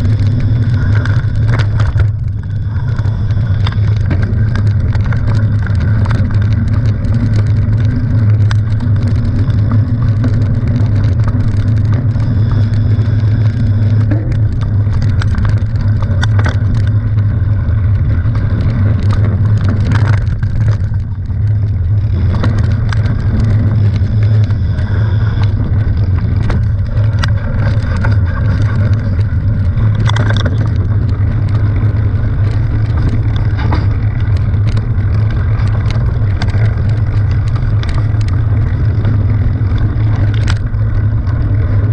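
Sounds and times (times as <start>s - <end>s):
bike rattles and clicks: 0.0s - 41.9s
bike tyres rumbling on dirt: 0.0s - 41.9s.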